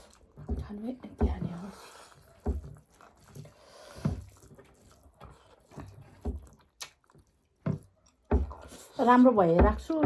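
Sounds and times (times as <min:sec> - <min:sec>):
wet chewing smacks: 0:00.0 - 0:09.1.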